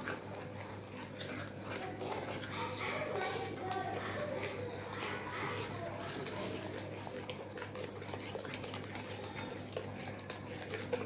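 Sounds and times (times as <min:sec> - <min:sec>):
spoon stirring wet marinade: 0:00.0 - 0:11.0.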